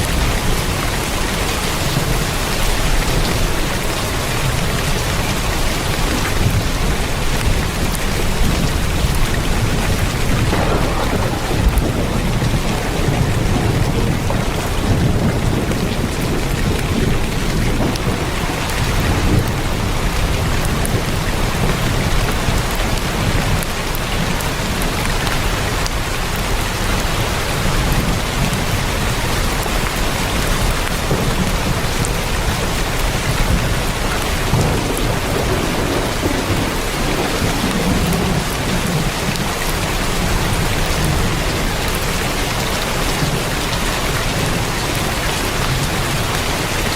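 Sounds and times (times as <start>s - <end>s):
heavy rain on a tin roof: 0.0s - 46.9s.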